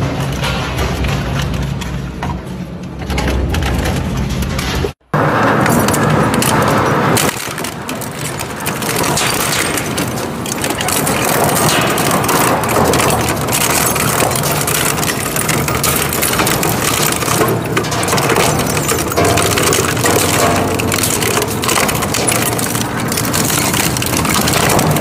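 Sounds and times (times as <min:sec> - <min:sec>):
shredder crunching metal: 0:03.4 - 0:25.0.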